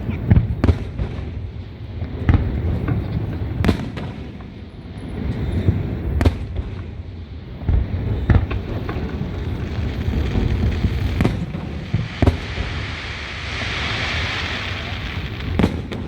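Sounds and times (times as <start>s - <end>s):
fireworks bangs: 0.0s - 16.0s
low rumble of explosions: 0.0s - 16.0s.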